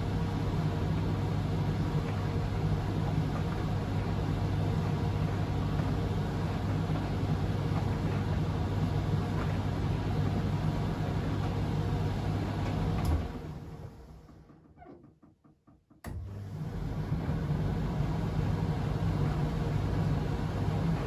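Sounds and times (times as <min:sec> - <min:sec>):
washing machine humming: 0:00.0 - 0:14.9, 0:16.1 - 0:21.0.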